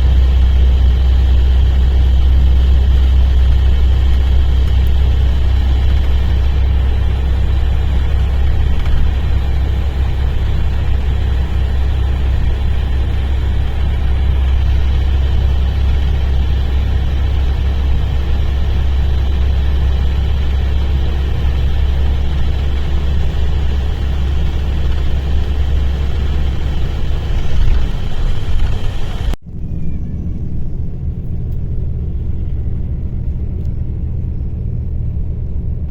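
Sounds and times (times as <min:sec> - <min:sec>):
bus diesel engine rumbling: 0:00.0 - 0:35.9.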